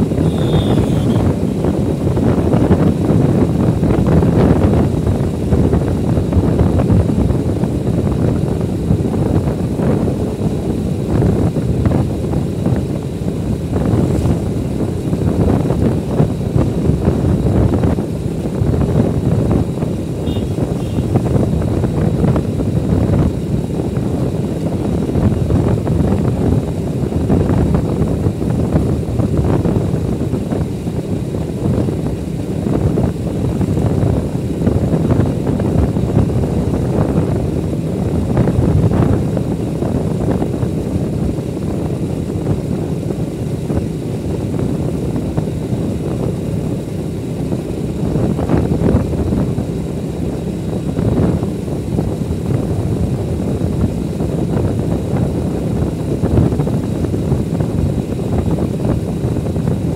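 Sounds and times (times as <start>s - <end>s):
motorcycle engine rumbling: 0.0s - 59.9s.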